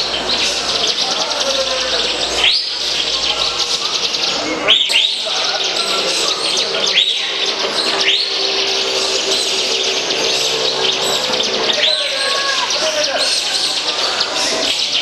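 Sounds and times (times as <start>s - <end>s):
rising bird whistles: 0.0s - 15.0s
songbirds twittering chorus: 0.0s - 15.0s.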